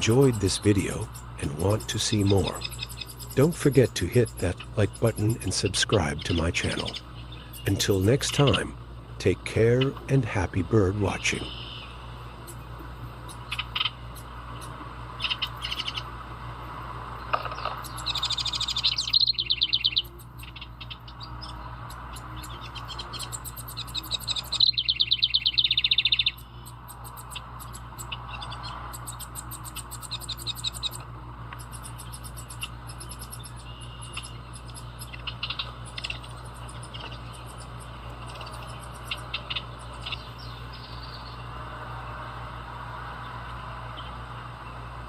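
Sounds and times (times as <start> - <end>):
faint bird chirping: 0.0 - 8.8, 10.9 - 16.1, 17.2 - 42.2, 43.2 - 44.9
wren singing rapid notes: 0.0 - 16.2, 17.1 - 41.6
steady low hum: 0.0 - 45.0.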